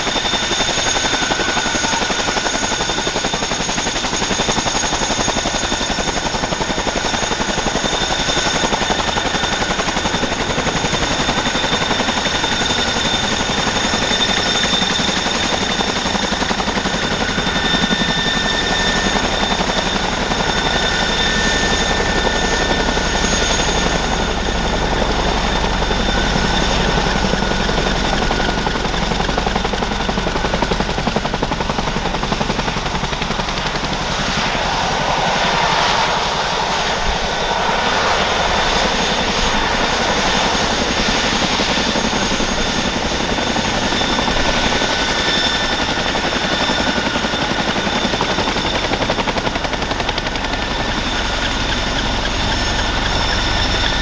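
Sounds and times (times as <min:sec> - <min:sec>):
helicopter rotor blades beating: 0:00.0 - 0:54.0
turbine engine whine: 0:00.0 - 0:54.0.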